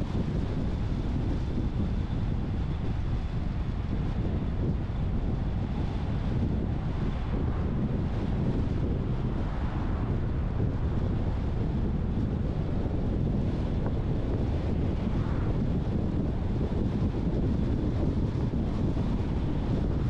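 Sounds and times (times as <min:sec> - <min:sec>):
car road and wind rumble: 0:00.0 - 0:20.0
wind buffeting microphone: 0:00.0 - 0:20.0.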